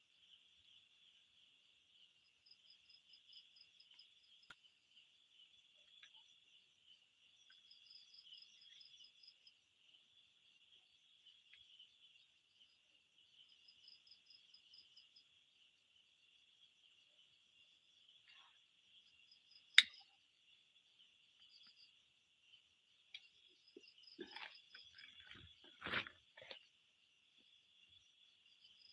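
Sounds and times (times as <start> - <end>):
crickets buzzing: 0.0 - 28.9
rapid insect chirps: 0.0 - 28.9.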